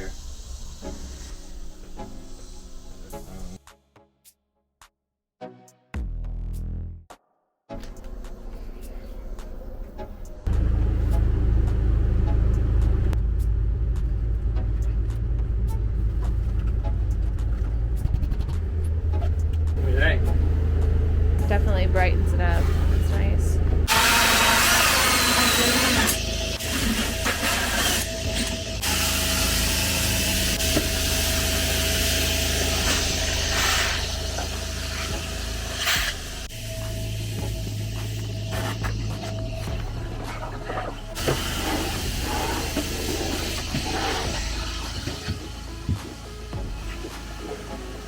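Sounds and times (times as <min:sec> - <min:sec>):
diesel generator humming: 0:08.2 - 0:48.0.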